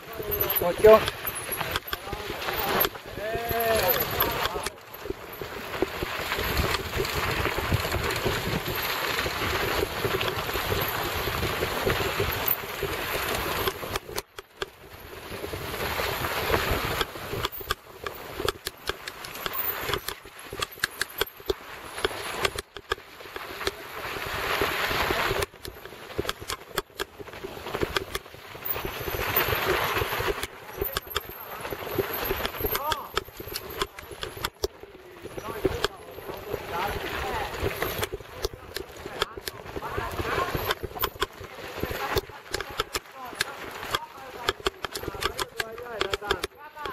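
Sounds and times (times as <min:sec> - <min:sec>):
bike rattling and knocking: 0:00.0 - 0:46.9.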